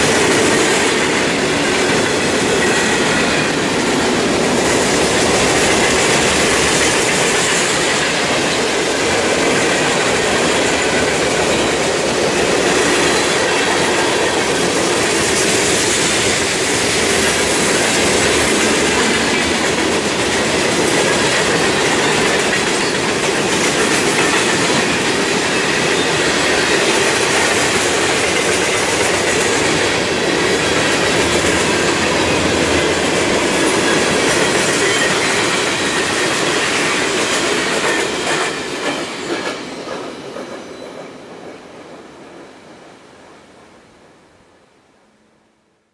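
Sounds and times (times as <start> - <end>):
train wheels clattering on rails: 0.0 - 42.8.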